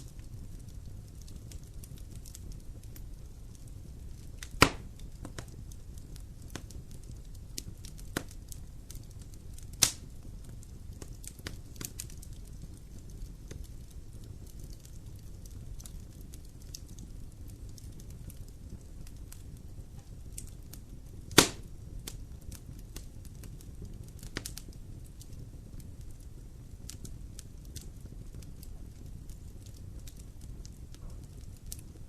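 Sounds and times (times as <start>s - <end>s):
loud sharp fire pops: 0.0s - 25.8s, 26.9s - 32.0s
fire crackling in fireplace: 0.0s - 32.0s.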